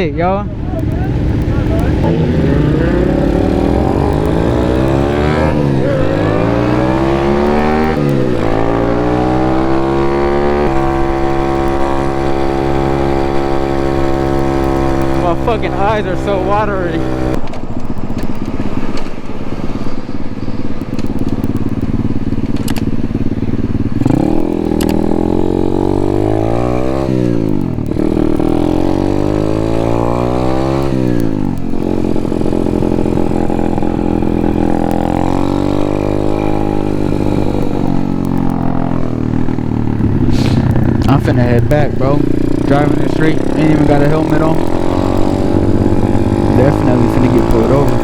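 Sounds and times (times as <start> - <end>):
motorbike engine accelerating: 0.0 - 48.0.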